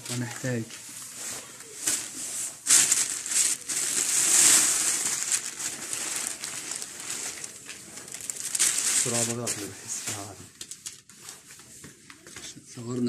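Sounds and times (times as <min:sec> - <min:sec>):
crinkling and rustling: 0:00.0 - 0:13.0.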